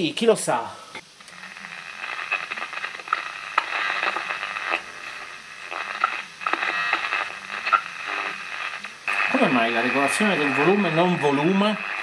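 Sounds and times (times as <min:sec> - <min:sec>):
radio broadcast from small speaker: 0:00.0 - 0:12.0
scratchy crackles: 0:01.4 - 0:12.0.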